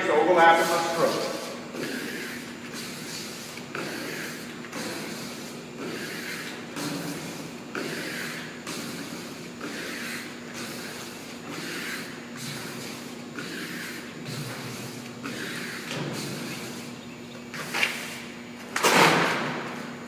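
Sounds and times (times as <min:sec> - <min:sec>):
squeegee rubbing swish: 0:00.5 - 0:16.9.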